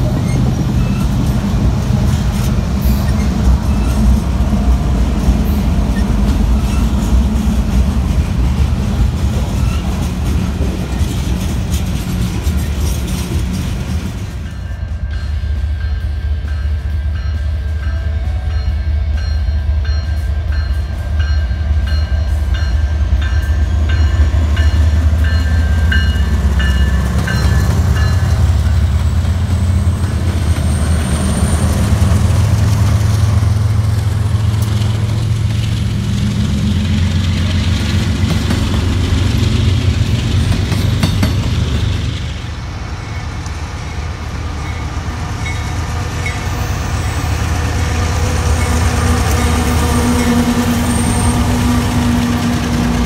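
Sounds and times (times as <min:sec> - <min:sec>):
diesel locomotive rumble: 0:00.0 - 0:53.0
train cars rolling: 0:00.0 - 0:53.0.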